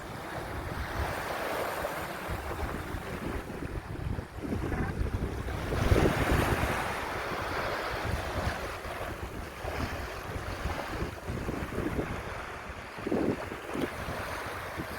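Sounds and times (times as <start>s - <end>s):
ocean surf washing in: 0.0s - 14.9s
wind buffeting microphone: 0.0s - 14.9s.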